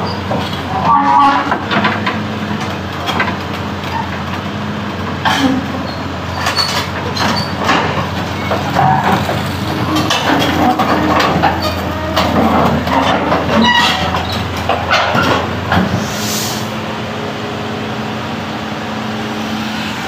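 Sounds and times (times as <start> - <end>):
excavator tracks clanking: 0.0 - 16.8
diesel engine running: 0.0 - 20.0.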